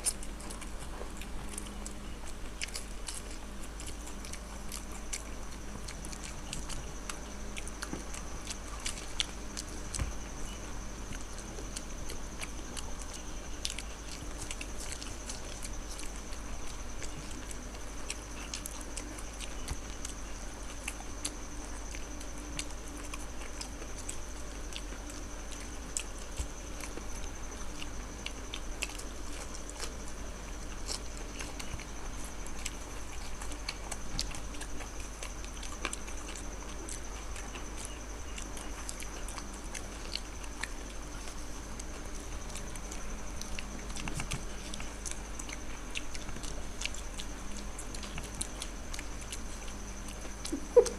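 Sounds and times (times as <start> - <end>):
crunchy chewing and biting: 0.0 - 50.9.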